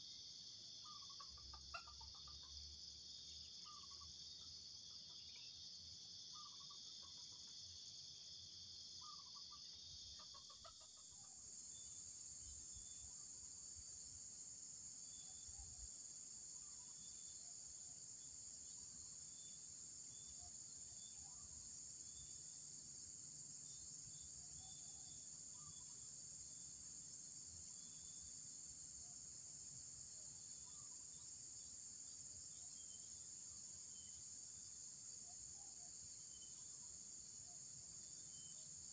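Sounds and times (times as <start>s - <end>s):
insect chorus droning: 0.0s - 38.9s.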